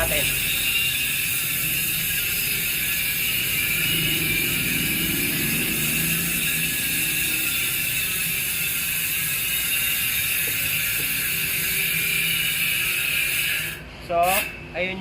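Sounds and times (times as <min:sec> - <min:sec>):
bicycle hub freewheel clicking: 0:00.0 - 0:14.6.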